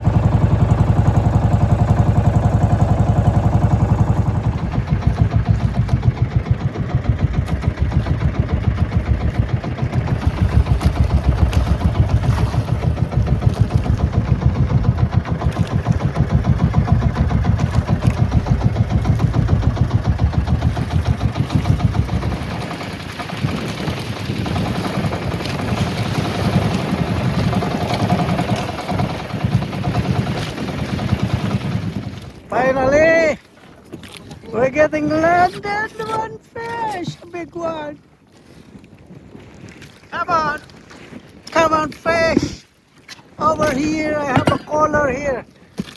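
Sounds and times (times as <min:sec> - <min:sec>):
small boat engine running: 0:00.0 - 0:45.9.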